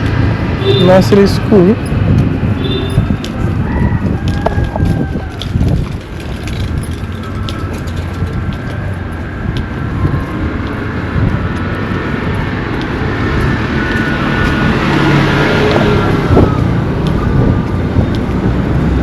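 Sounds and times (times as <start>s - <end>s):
motor vehicle approaching: 0.0s - 19.0s.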